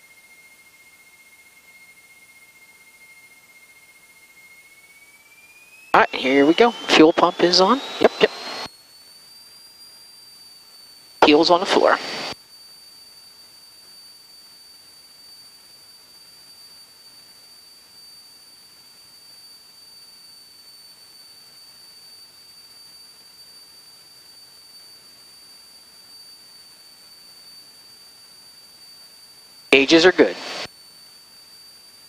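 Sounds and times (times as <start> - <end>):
high-pitched whine: 0.0 - 32.0.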